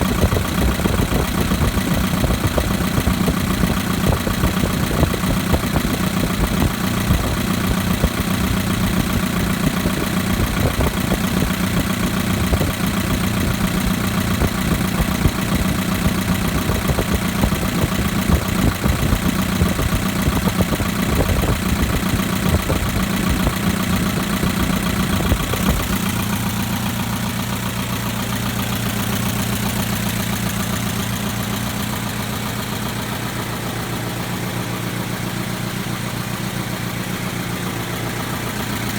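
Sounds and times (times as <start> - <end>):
car engine idling: 0.0 - 38.9
engine ticking: 0.0 - 38.9.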